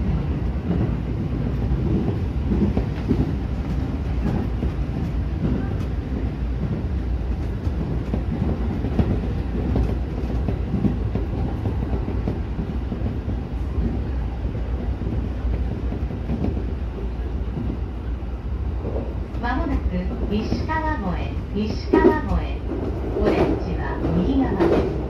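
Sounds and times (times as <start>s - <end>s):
wheels rumbling on rail: 0.0s - 25.0s.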